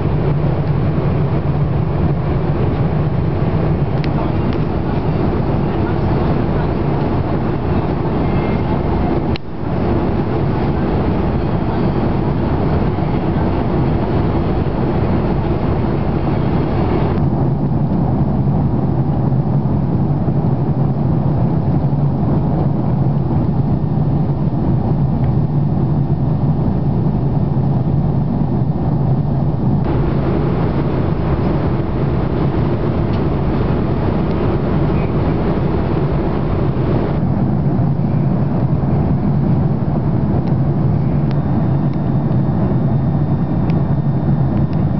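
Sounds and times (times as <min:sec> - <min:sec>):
airplane cabin engine rush: 0:00.0 - 0:44.9
low hum: 0:00.0 - 0:44.9.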